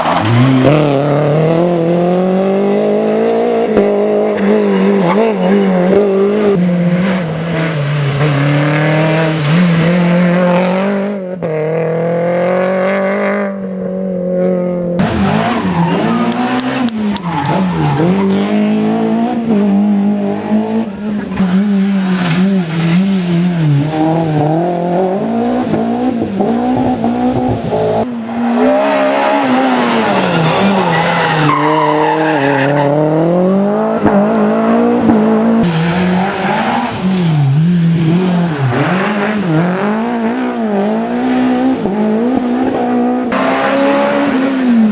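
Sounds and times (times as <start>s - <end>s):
rally car engines revving hard: 0.0s - 44.9s.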